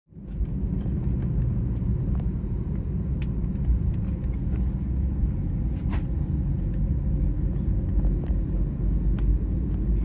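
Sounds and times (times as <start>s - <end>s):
aircraft cabin engine rumble: 0.1s - 10.0s.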